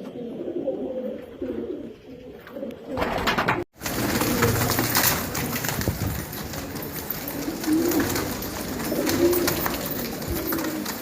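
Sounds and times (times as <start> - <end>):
pigeons cooing: 0.0 - 3.1, 3.8 - 11.0.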